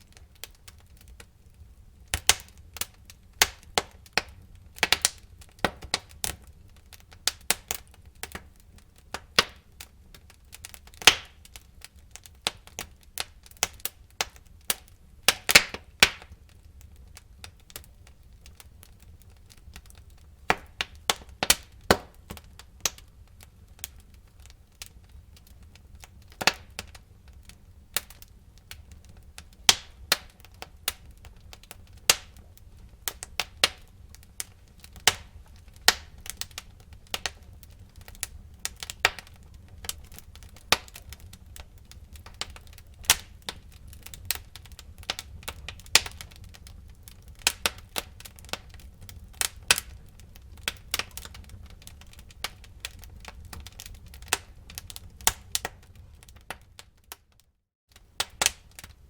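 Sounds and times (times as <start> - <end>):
burning logs popping and snapping: 0.0 - 59.0
low rumble of flame: 0.0 - 59.0.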